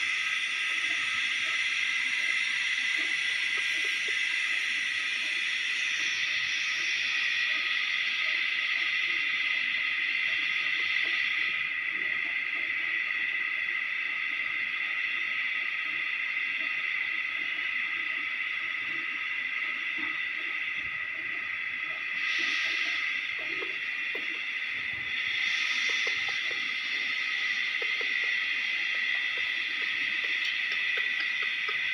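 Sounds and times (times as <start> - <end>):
steady high-pitched hiss: 0.0 - 31.9.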